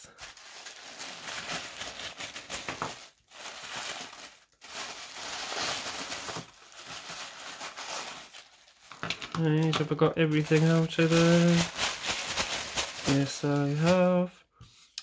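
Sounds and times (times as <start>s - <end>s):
plastic bag crinkling: 0.0s - 14.3s.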